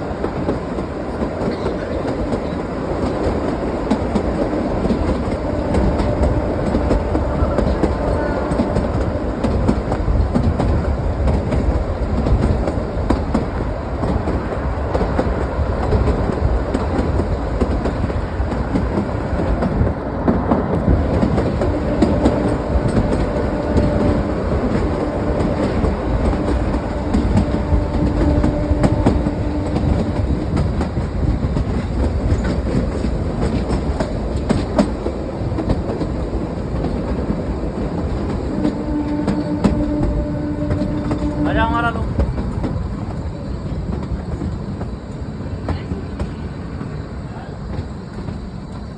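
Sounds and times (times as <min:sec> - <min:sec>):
train wheels clattering on rails: 0:00.0 - 0:48.9.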